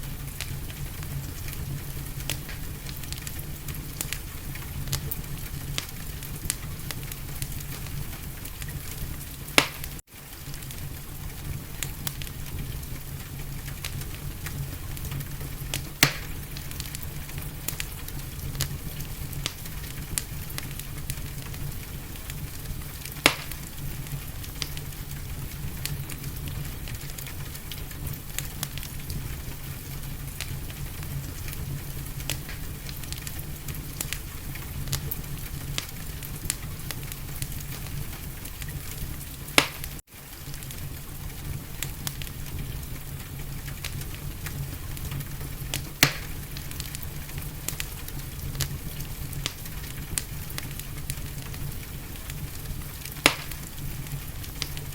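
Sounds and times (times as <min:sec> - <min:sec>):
gentle rain hiss: 0:00.0 - 0:54.9
sharp fire pops: 0:00.0 - 0:54.9
wood fire crackling: 0:00.0 - 0:54.9.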